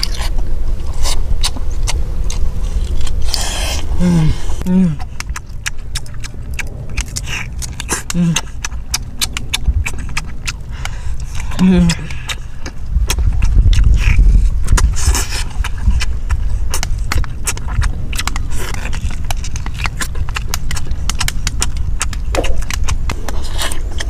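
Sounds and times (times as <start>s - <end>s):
chewing and lip-smacking: 0.0s - 24.0s
steady low rumble: 0.0s - 24.0s.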